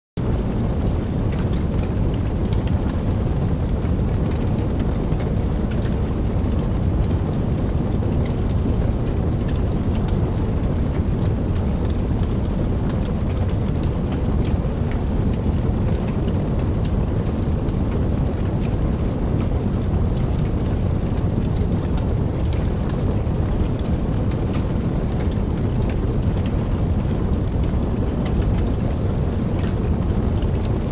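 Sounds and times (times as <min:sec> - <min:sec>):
campfire flames rushing: 0:00.2 - 0:30.9
fire crackling: 0:00.2 - 0:30.9.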